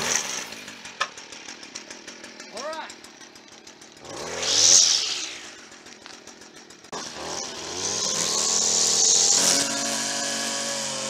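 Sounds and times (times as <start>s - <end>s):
string trimmer engine revving: 0.0s - 11.0s.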